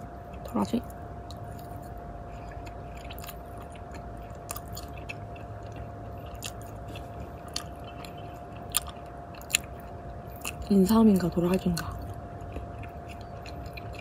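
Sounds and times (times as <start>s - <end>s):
faint steady hum: 0.0s - 14.0s
person chewing crisp food: 0.0s - 14.0s.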